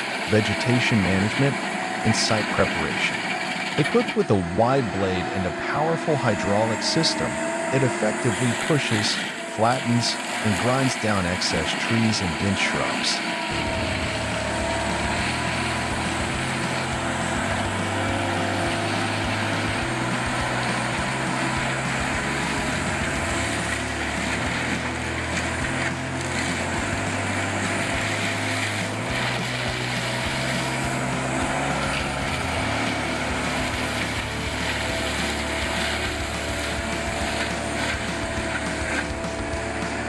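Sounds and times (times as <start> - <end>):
heavy machinery running: 0.0 - 40.0
low hum shifting pitch: 0.1 - 40.0.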